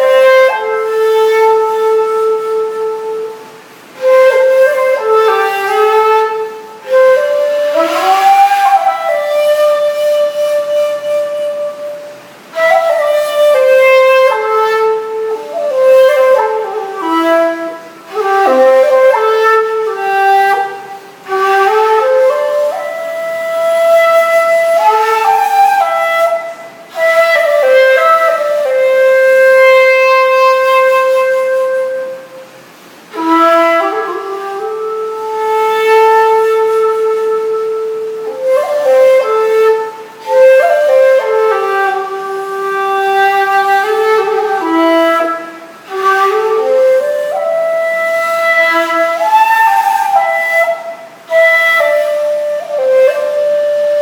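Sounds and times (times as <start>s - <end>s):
bamboo flute solo melody: 0.0s - 54.0s.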